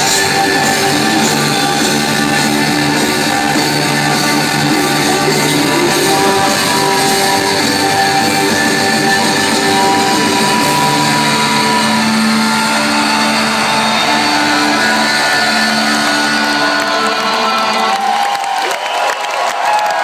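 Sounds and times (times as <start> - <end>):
distorted rock band chords: 0.0 - 18.2
crowd cheering: 0.0 - 20.0.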